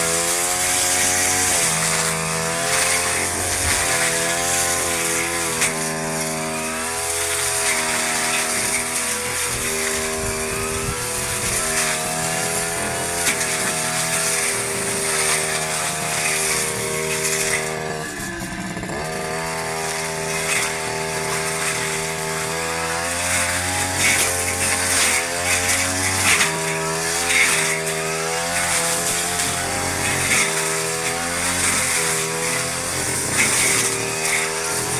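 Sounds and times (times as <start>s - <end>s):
lawn mower engine cutting grass: 0.0s - 34.9s.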